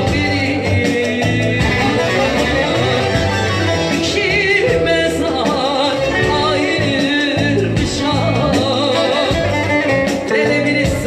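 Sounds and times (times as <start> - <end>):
loud live music: 0.0 - 11.0
woman singing: 0.0 - 11.0.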